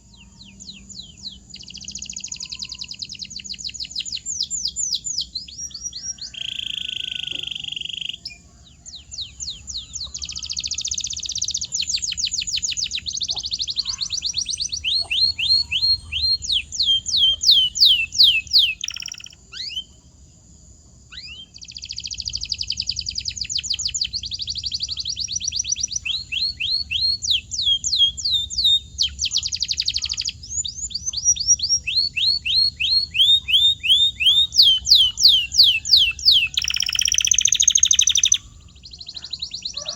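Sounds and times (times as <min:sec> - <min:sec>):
canary singing: 0:00.0 - 0:20.0, 0:21.1 - 0:39.9.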